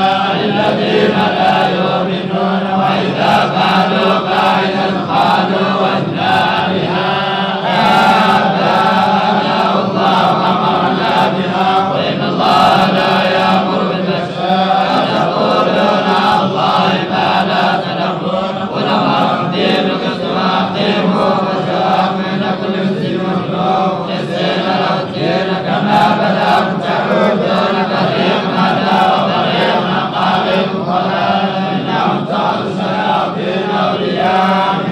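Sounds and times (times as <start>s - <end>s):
man chanting recitation: 0.0s - 34.9s.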